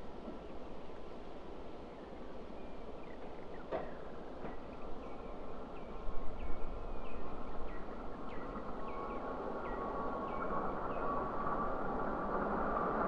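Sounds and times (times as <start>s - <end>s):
distant jet roar with whine: 1.6s - 13.0s.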